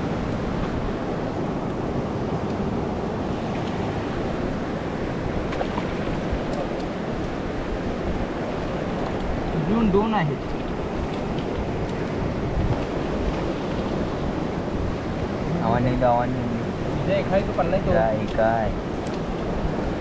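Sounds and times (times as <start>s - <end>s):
sea surf rushing: 0.0s - 20.0s
wind on microphone: 0.0s - 20.0s.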